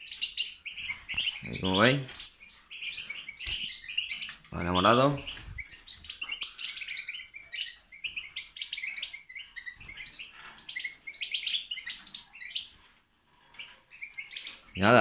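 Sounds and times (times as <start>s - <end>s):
finches chirping and twittering: 0.0s - 15.0s.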